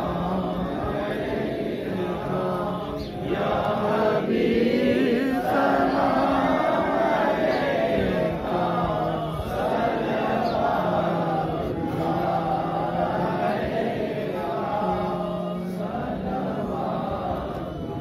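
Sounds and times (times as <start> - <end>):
voices chanting: 0.0 - 18.0.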